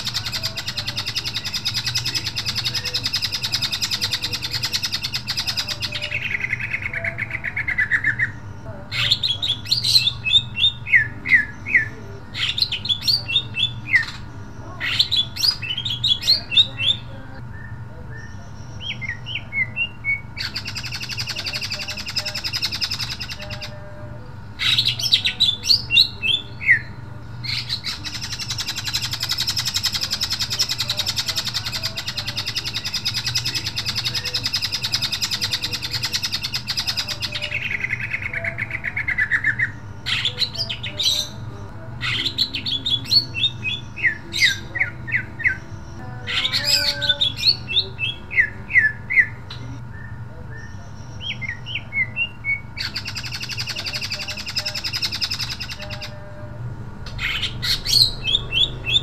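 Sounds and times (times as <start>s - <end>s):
caged bird singing trills: 0.0s - 59.0s
steady low hum: 0.0s - 59.0s.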